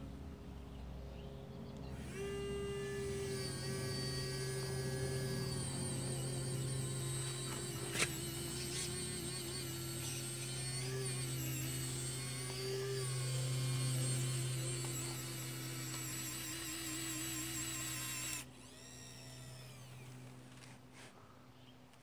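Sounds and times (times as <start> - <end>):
electric motor whining: 1.8 - 20.8.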